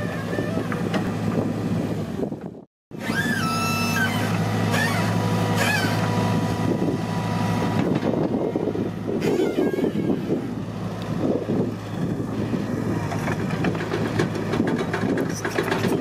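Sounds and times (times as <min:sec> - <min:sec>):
excavator diesel engine: 0:00.0 - 0:16.0.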